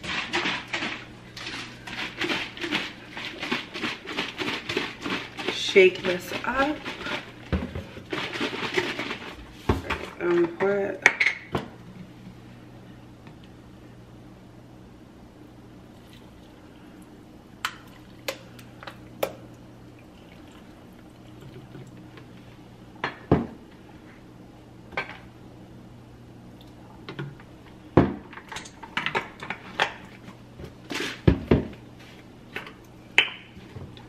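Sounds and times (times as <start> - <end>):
faint steady hum: 1.0 - 34.0.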